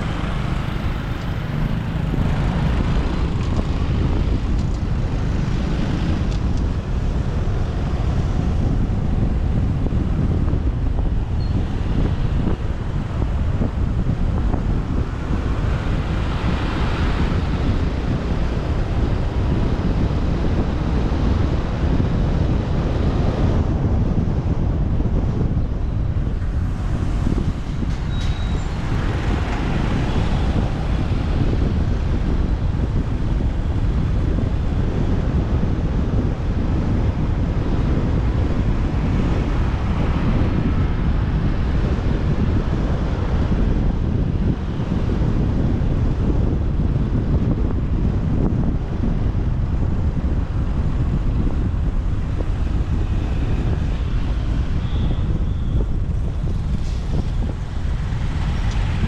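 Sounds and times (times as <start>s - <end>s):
road and traffic noise: 0.0s - 59.0s
wind buffeting microphone: 0.0s - 59.0s.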